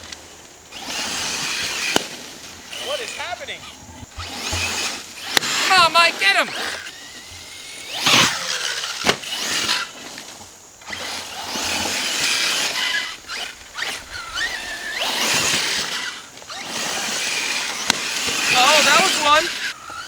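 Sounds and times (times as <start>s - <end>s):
electric motor whining: 0.0s - 20.0s
tyres hissing over dirt: 0.0s - 20.0s.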